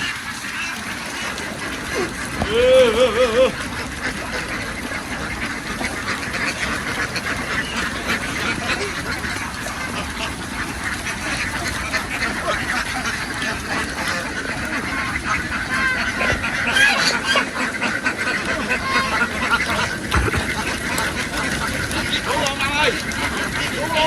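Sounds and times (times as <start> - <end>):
ducks quacking: 0.0 - 24.0.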